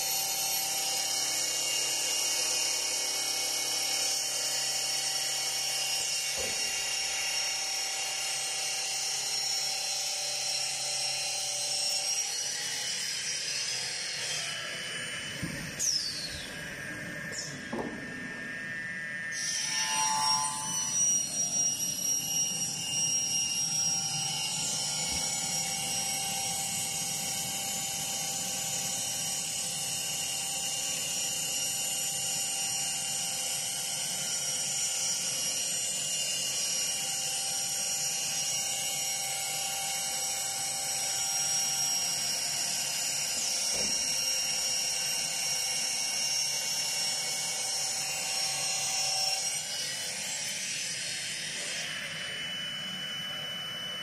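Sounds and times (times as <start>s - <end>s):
saw blade cutting wood: 0.0s - 16.6s, 19.3s - 52.5s
router spindle whine: 0.0s - 54.0s.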